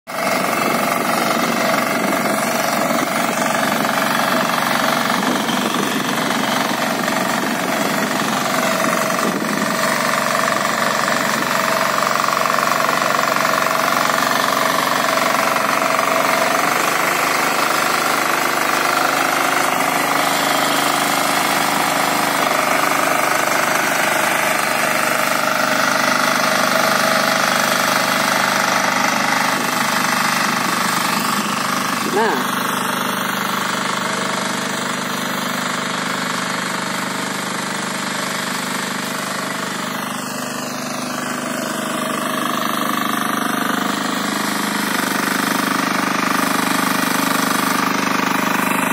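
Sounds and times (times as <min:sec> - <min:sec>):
diesel engine running: 0:00.1 - 0:48.9
tines churning soil: 0:00.1 - 0:48.9.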